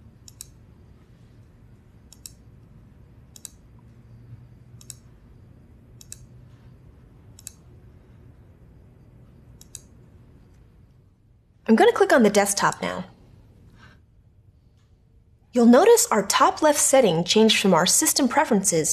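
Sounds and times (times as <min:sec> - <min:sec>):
faint low hum: 0:00.0 - 0:18.9.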